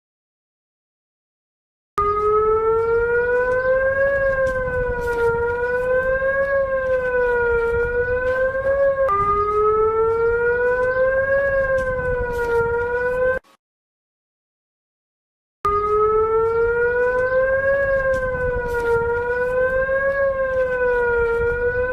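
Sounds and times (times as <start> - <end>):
wailing alarm tone: 2.0 - 13.4, 15.7 - 21.9.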